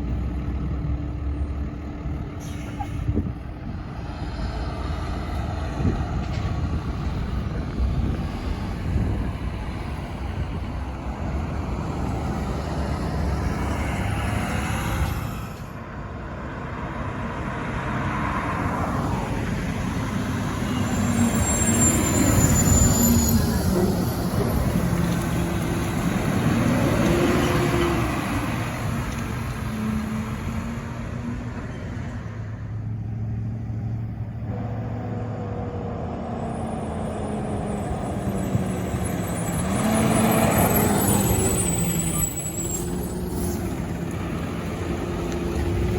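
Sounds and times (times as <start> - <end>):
garbage truck diesel engines: 0.0 - 45.9.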